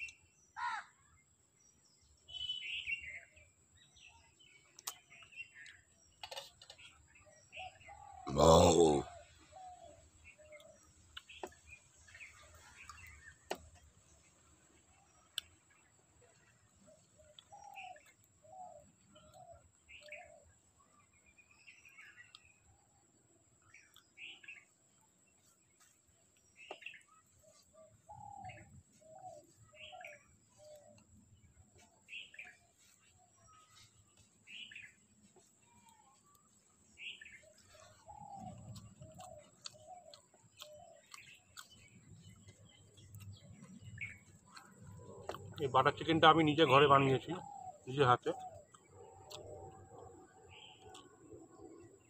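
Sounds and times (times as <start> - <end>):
faint bird chirps: 0.0 - 52.0.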